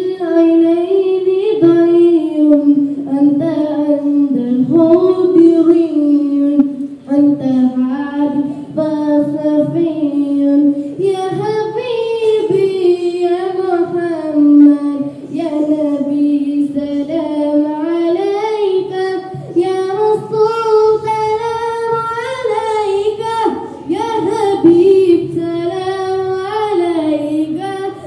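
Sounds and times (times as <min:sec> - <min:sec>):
boy singing into microphone: 0:00.0 - 0:28.0.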